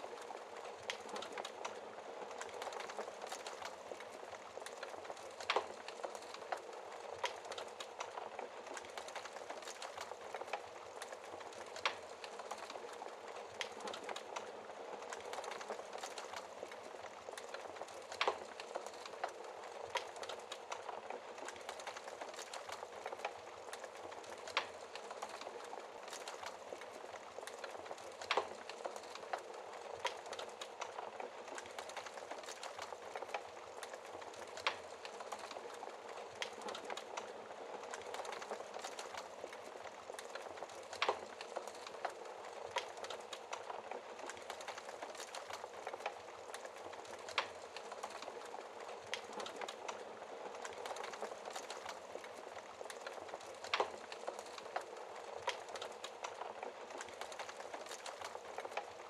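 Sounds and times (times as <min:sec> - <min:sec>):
fire popping: 0:00.0 - 0:59.0
wood fire crackling: 0:00.0 - 0:59.0.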